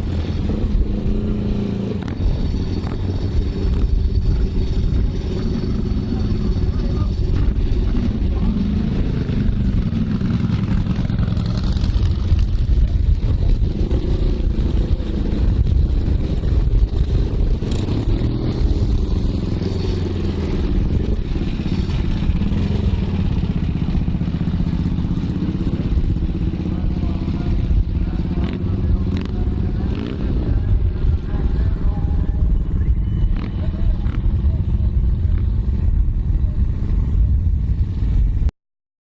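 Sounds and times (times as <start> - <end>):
motorcycle engine revving: 0.0 - 38.5.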